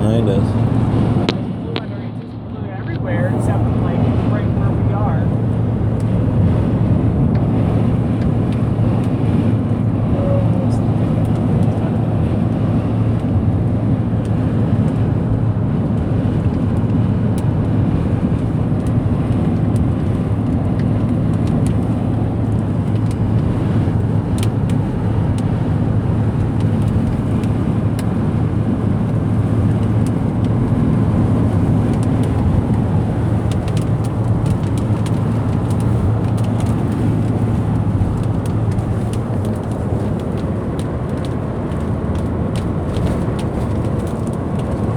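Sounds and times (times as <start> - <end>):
car cabin road noise: 0.0 - 44.9.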